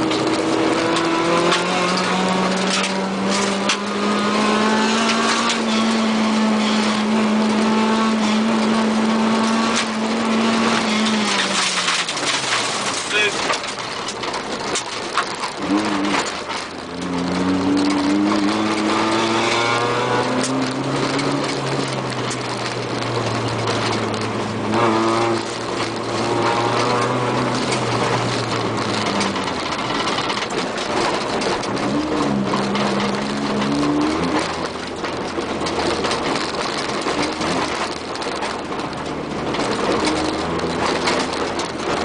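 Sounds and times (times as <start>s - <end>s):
car engine pulling hard: 0.0s - 42.0s
tyres rushing on dirt road: 0.0s - 42.0s.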